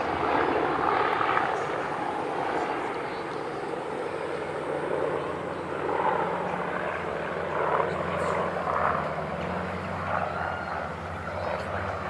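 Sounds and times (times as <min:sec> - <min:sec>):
propeller aircraft engine drone: 0:00.0 - 0:12.0.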